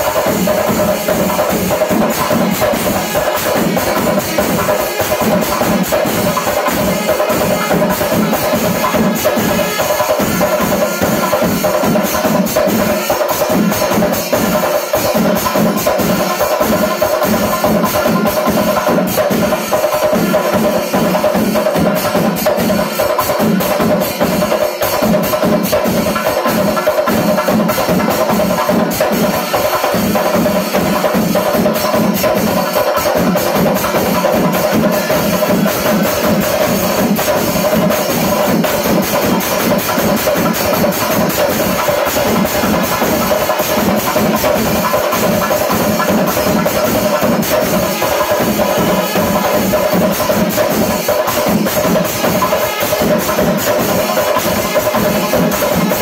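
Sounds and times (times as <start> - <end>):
hand cymbals: 0.0 - 56.0
massed drums fast rhythm: 0.0 - 56.0.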